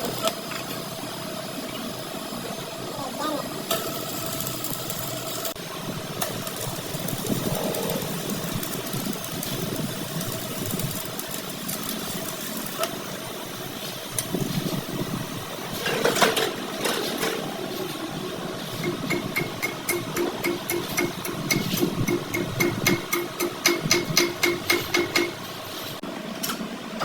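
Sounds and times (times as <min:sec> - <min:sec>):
workshop machinery running: 0:00.0 - 0:27.0.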